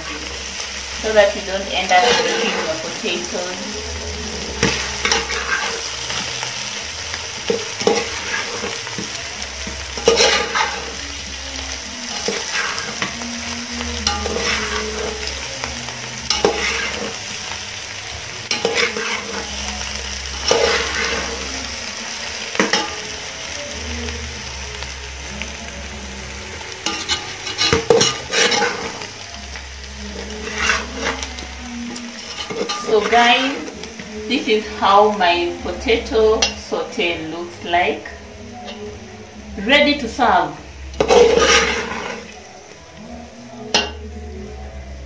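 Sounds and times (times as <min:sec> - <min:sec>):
potatoes sizzling in a pot: 0:00.0 - 0:45.0.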